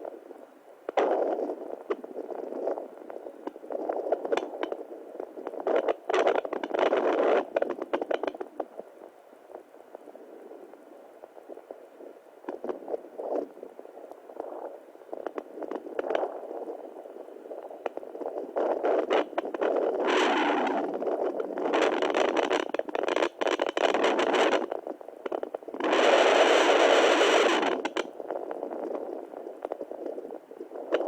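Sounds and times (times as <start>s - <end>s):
scratchy crackles: 0.9s - 8.8s, 12.5s - 31.0s.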